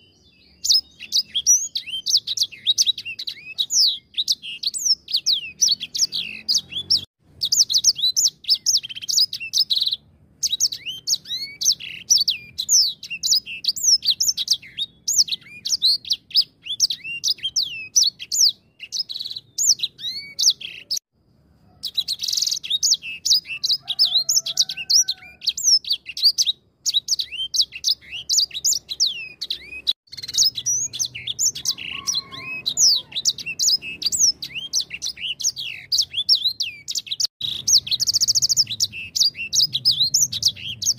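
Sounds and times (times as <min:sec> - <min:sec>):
finch singing: 0:00.0 - 0:21.0, 0:21.7 - 0:40.9.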